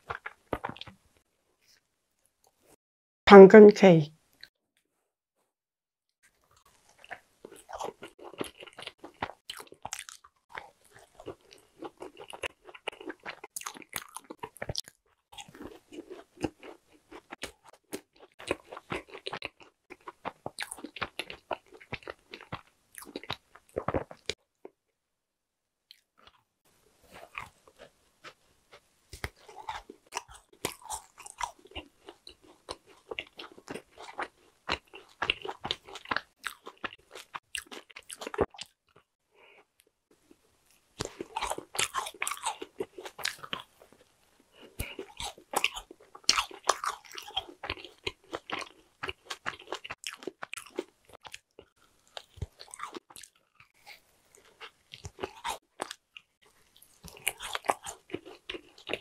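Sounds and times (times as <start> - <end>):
crunching bites and chewing: 0.0 - 1.8, 6.3 - 24.8, 27.1 - 39.7, 40.3 - 59.0.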